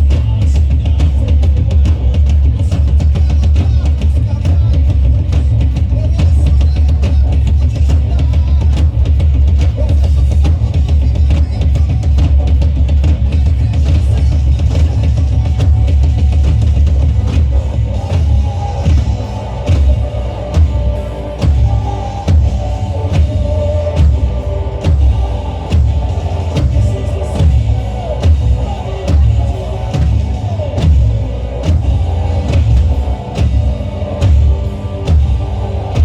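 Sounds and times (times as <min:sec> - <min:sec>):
drum kit steady beat: 0:00.0 - 0:36.0
rock band music: 0:00.0 - 0:36.0.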